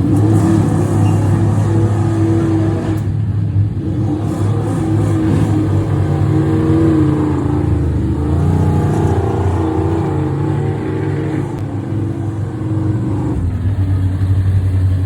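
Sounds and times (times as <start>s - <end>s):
racing car engine running: 0.0s - 15.0s.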